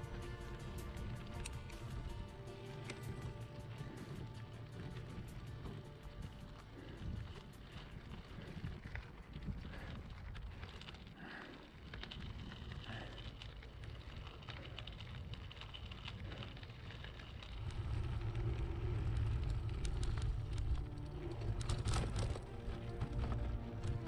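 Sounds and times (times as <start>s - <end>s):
bike tyres crunching on gravel: 0.0s - 24.0s
wind buffeting microphone: 0.0s - 24.0s.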